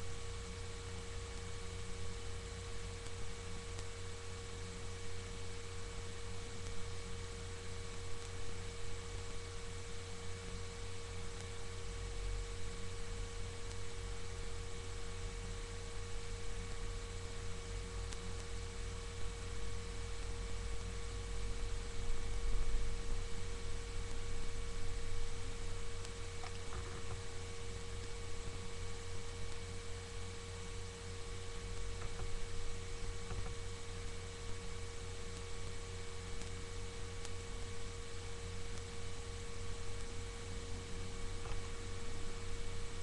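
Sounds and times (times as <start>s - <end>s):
constant mid-pitched tone: 0.0s - 43.0s
low electrical hum: 0.0s - 43.0s.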